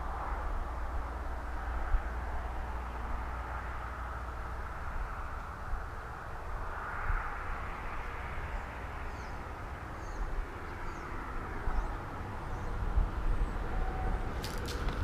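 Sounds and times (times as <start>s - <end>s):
road traffic rumble and tyre hiss: 0.0s - 15.0s.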